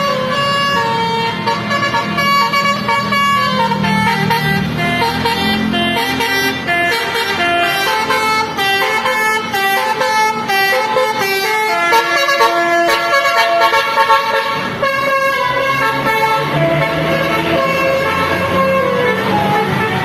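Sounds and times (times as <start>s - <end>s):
musical air horn melody: 0.0s - 20.0s.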